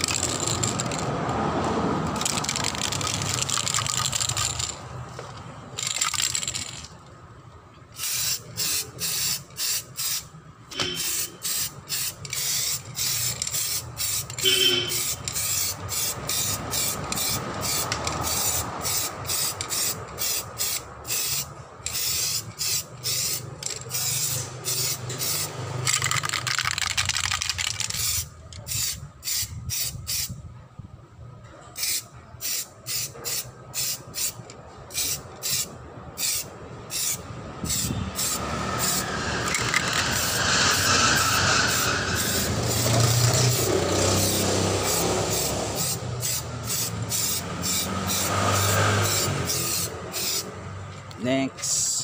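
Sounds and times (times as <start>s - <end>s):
spray paint can hissing bursts: 0.0s - 1.0s, 2.2s - 4.8s, 5.8s - 6.9s, 8.0s - 30.4s, 31.8s - 50.6s.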